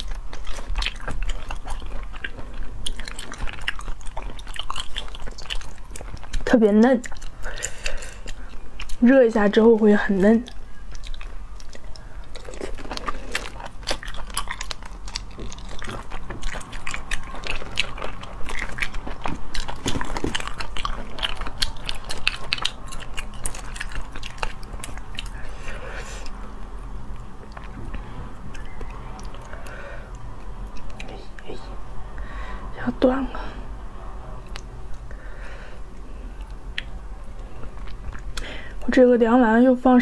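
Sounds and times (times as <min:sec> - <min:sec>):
person chewing with wet smacks: 0:00.0 - 0:31.7, 0:34.4 - 0:35.2, 0:35.9 - 0:38.9.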